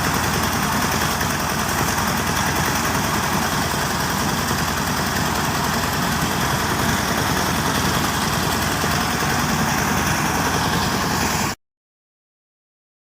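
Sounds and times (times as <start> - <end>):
diesel engine pulsing: 0.0 - 11.6
threshing machine rush: 0.0 - 11.6.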